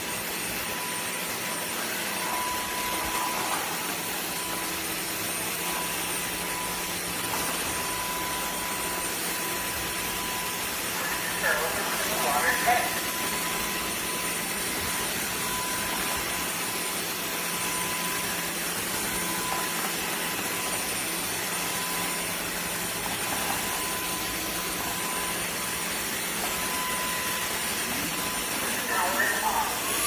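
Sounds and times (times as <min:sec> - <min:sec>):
vacuum motor whine: 0:00.0 - 0:30.0.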